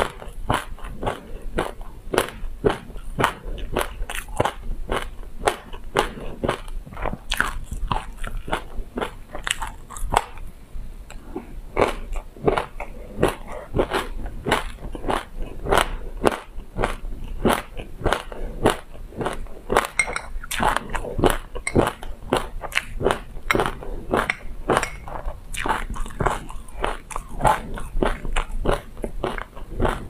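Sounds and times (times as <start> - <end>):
close chewing crunches: 0.0 - 10.5, 11.1 - 30.0.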